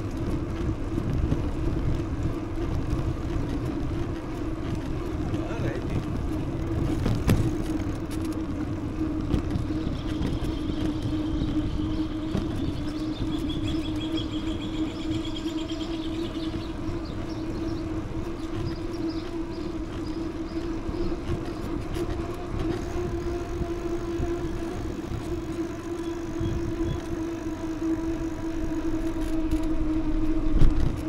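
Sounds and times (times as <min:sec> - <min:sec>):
mid-pitched hum: 0:00.0 - 0:31.0
wind rumbling on microphone: 0:00.0 - 0:31.0.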